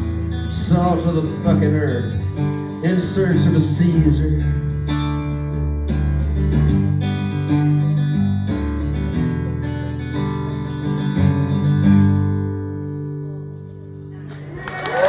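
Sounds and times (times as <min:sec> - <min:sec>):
band playing guitars and bass: 0:00.0 - 0:15.0.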